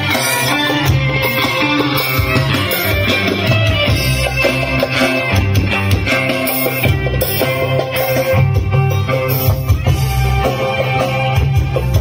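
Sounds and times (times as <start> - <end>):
loud music with plucked strings: 0.0 - 12.0.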